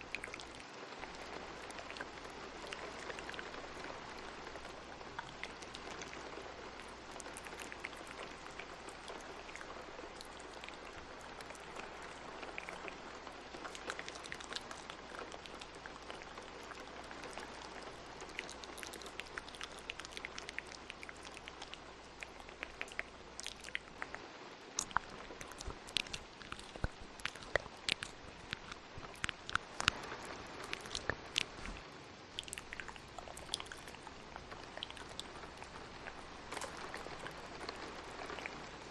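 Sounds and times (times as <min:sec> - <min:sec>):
steady rain: 0:00.0 - 0:38.9
wet mouth clicks and smacks: 0:00.0 - 0:38.9.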